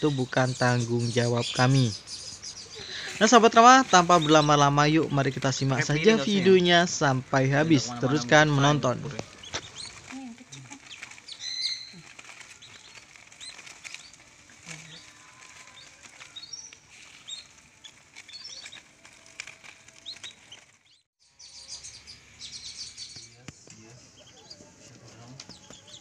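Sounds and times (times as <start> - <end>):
ducklings peeping: 0.0 - 26.0.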